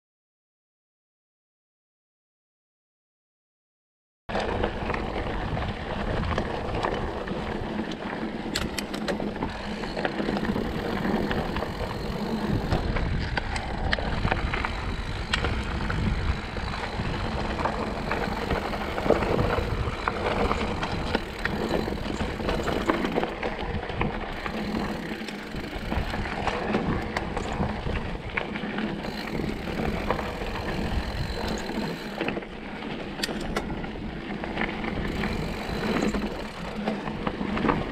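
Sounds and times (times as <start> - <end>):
bike clicks and rattles: 4.3 - 37.9
bike tyres crunching on dirt: 4.3 - 37.9.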